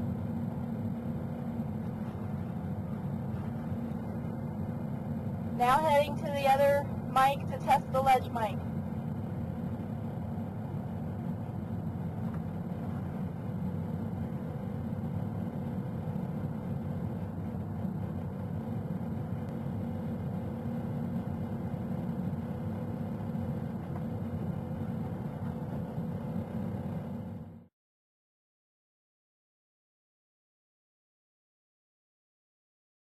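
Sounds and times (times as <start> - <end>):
city background rumble: 0.0 - 27.6
faint steady hum: 0.0 - 27.7.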